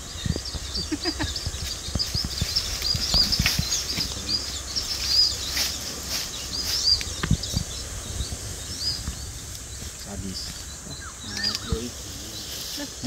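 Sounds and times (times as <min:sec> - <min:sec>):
dry leaves crackling: 0:00.0 - 0:13.0
small birds chirping: 0:00.0 - 0:13.0.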